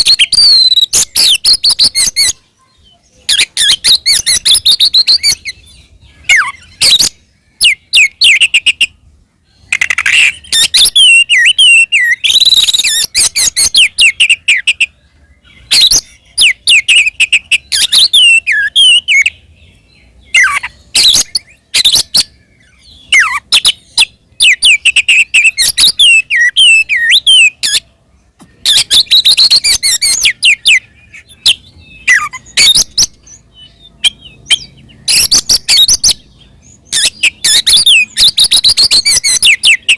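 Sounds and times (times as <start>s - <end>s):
bird singing loud whistles and chatters: 0.0s - 39.9s.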